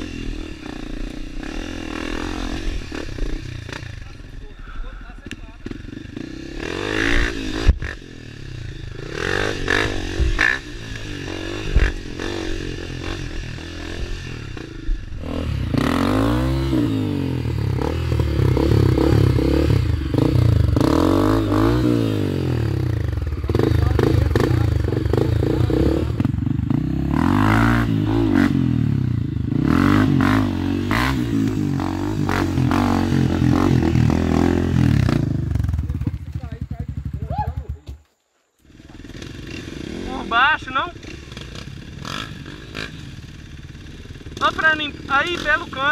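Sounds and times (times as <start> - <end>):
motorcycle engine revving: 0.0 - 38.0, 38.6 - 45.9.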